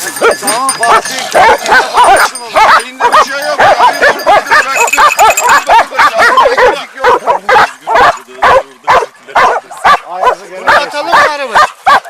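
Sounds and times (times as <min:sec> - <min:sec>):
dogs barking and baying: 0:00.0 - 0:12.0.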